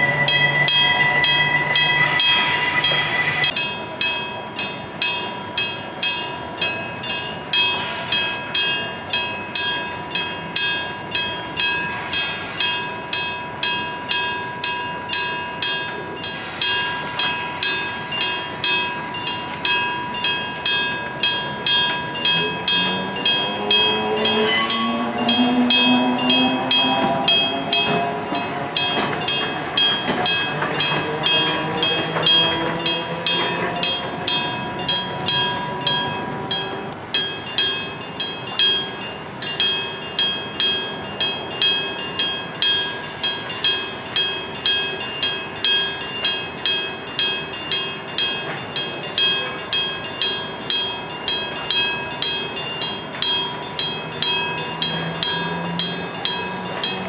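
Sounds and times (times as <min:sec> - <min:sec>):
train engine: 0:00.0 - 0:57.0
level crossing bell ringing: 0:03.4 - 0:57.0.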